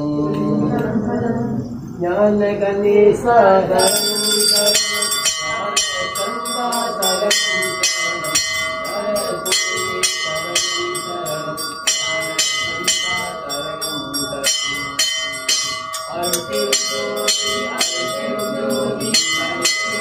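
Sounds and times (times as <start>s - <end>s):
temple bell ringing: 3.8s - 20.0s.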